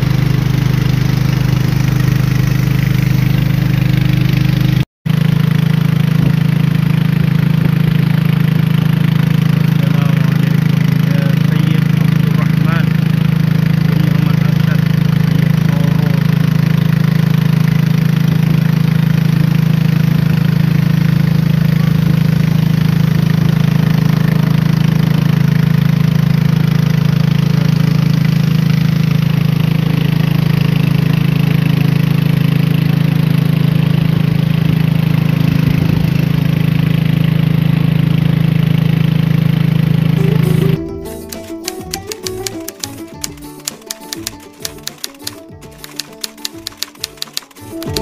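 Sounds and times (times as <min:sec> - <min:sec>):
low motor drone: 0:00.0 - 0:48.0.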